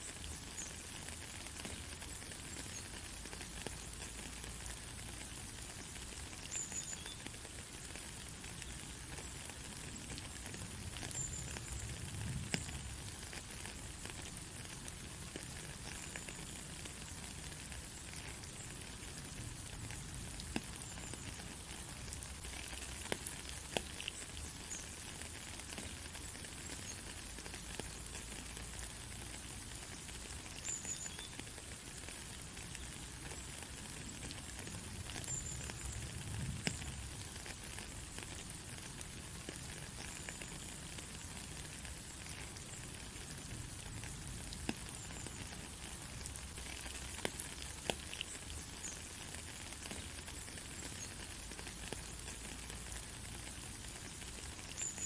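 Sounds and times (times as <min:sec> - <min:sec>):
rain hissing: 0:00.0 - 0:55.0
raindrop ticks: 0:00.0 - 0:55.0.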